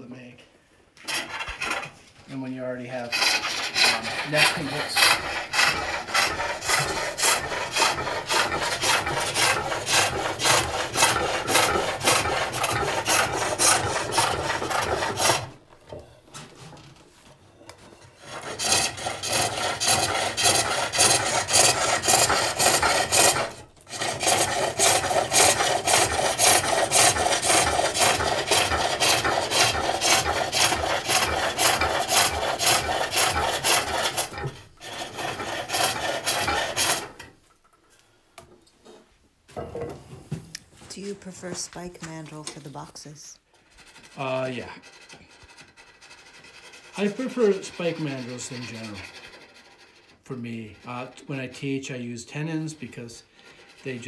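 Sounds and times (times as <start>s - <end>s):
tool scraping wood on lathe: 1.0s - 37.9s, 43.5s - 54.0s.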